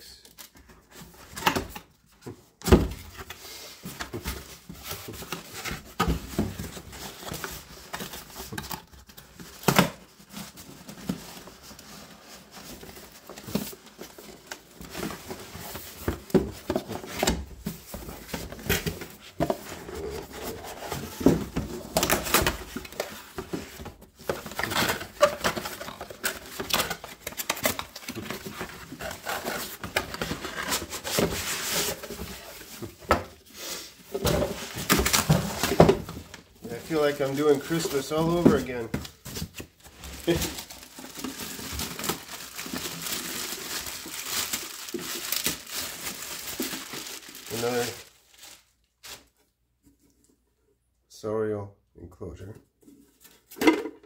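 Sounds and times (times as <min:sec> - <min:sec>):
bubble wrap and plastic crinkling: 0:02.8 - 0:49.5.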